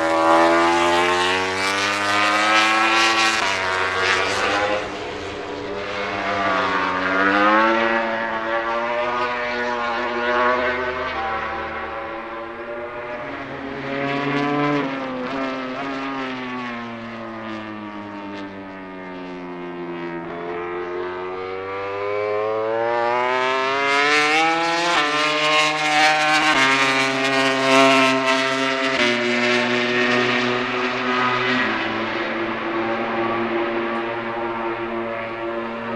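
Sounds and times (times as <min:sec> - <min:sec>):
race bike engine at high revs: 0:00.0 - 0:35.9.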